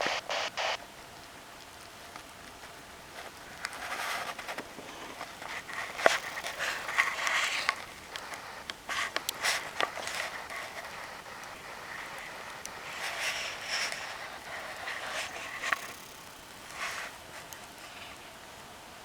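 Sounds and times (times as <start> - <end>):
wood fire crackling and popping: 0.0 - 18.3.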